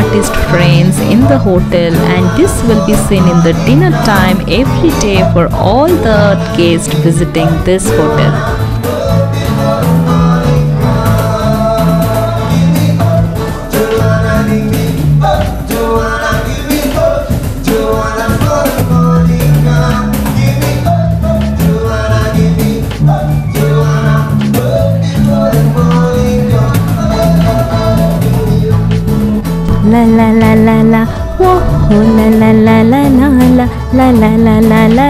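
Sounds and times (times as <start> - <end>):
person singing: 0.0 - 29.0, 29.7 - 35.0
live band playing: 0.0 - 35.0.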